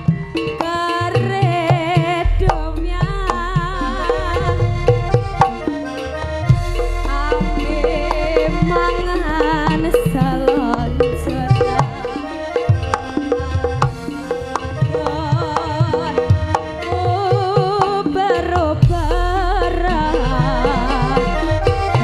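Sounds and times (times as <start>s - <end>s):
hand drums beating: 0.0s - 22.0s
ornamented melody line: 0.0s - 22.0s.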